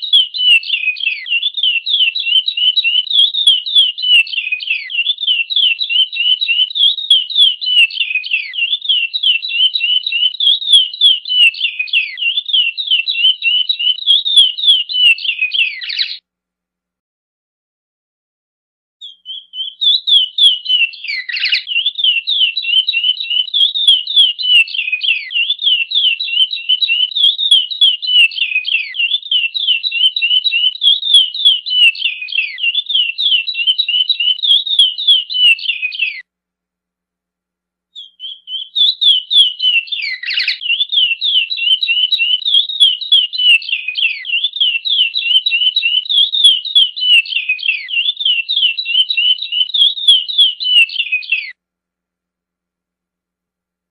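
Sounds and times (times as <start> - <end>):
finch singing whistled notes: 0.0 - 16.2, 19.0 - 36.2, 38.0 - 51.6.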